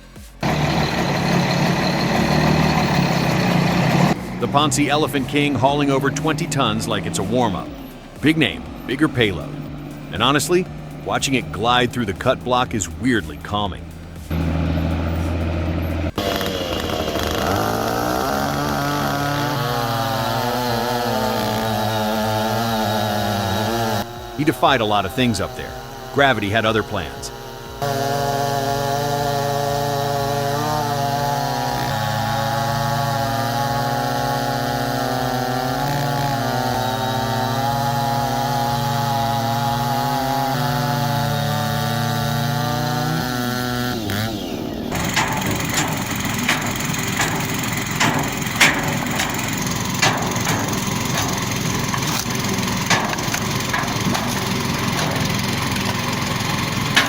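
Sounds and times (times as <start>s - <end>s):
chainsaw running: 0.0s - 57.0s
low engine drone: 0.0s - 57.0s.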